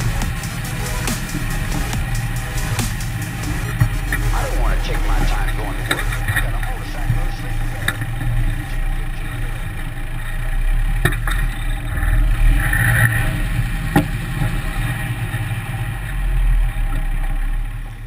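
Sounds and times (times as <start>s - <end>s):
vehicle engine at low revs: 0.0s - 18.0s.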